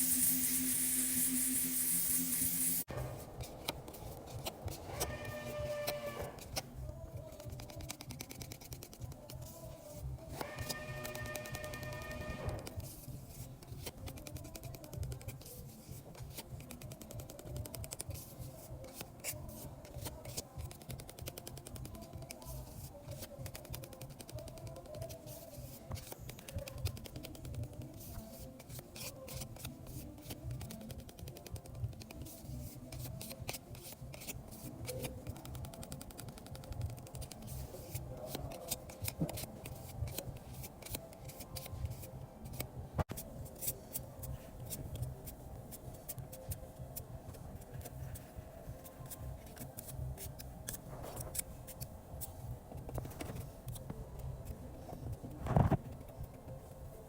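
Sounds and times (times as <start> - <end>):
background music: 0.0 - 57.0.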